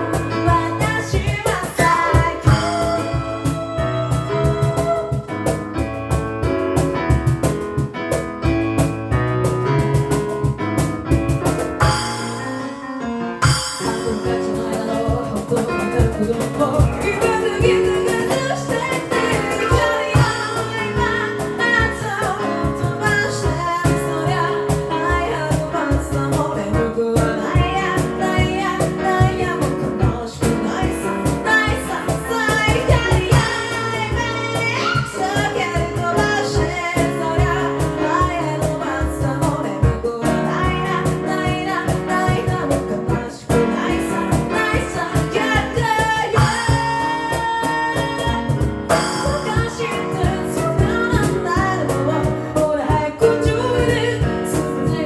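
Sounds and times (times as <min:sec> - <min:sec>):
a cappella group singing: 0:00.0 - 0:05.4, 0:13.8 - 0:55.0
vocal percussion beat: 0:00.0 - 0:12.8, 0:13.4 - 0:55.0.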